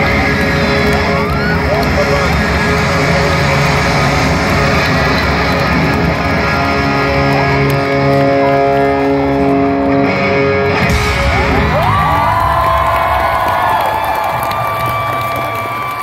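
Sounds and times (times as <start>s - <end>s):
crowd cheering: 0.0s - 16.0s
electric guitar sustained notes: 0.0s - 16.0s.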